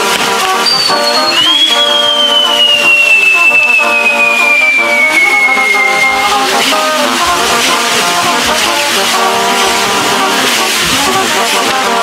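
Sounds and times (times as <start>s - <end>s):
band music with held chords: 0.0s - 12.0s
whistling firework: 0.0s - 12.0s.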